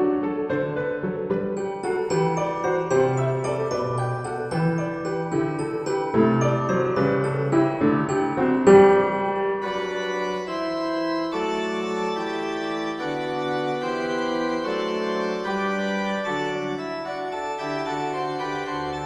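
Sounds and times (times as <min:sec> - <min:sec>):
organ-like keyboard chords: 0:01.3 - 0:19.0.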